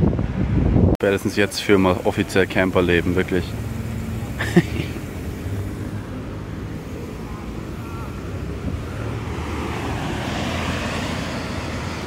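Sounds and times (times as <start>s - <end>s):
vehicle driving rumble: 0.0s - 12.0s.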